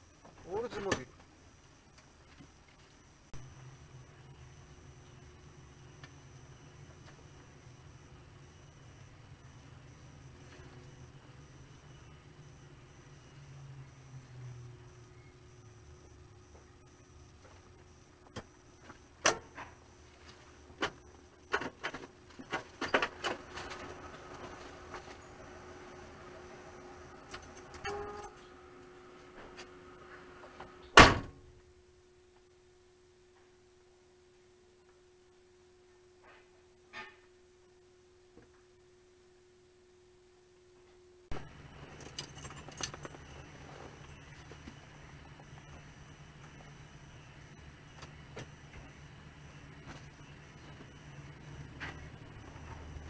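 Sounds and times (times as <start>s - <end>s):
faint steady tone: 0.0s - 53.0s.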